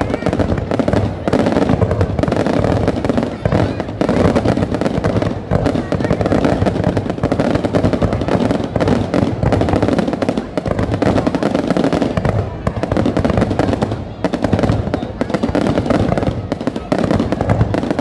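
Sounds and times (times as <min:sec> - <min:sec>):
fireworks bangs and crackling pops: 0:00.0 - 0:18.0.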